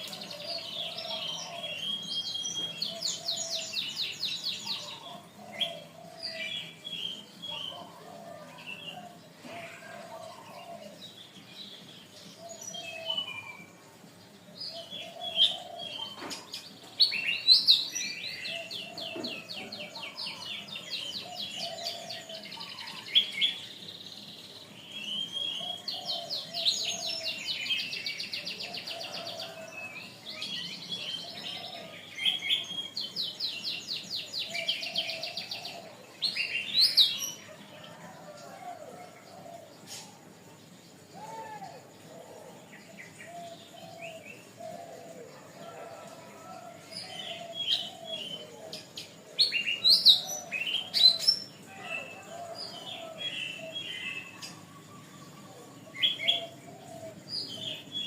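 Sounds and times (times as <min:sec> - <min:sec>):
canary singing with trills: 0:00.0 - 0:58.0.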